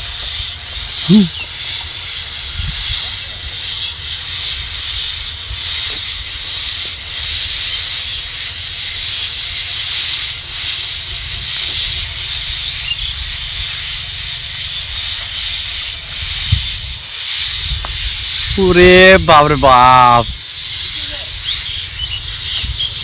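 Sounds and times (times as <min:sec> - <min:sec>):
high-pitched hiss: 0:00.0 - 0:23.0.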